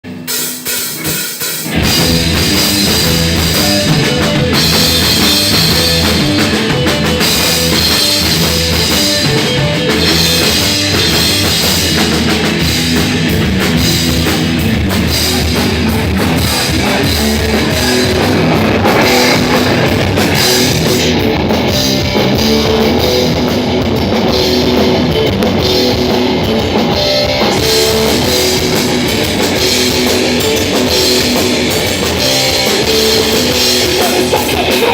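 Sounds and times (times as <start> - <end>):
drum kit: 0.0 - 34.9
electric guitar: 0.0 - 34.9
rock band playing live: 0.0 - 34.9.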